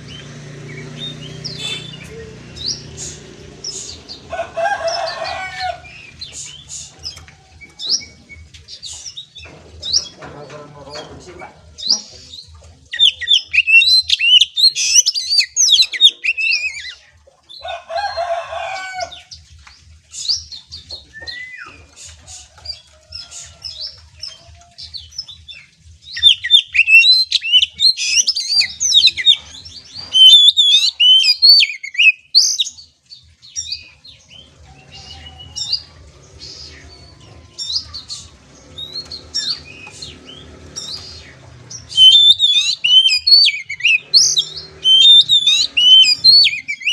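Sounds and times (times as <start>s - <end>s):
bird singing chirps and trills: 0.0s - 46.9s.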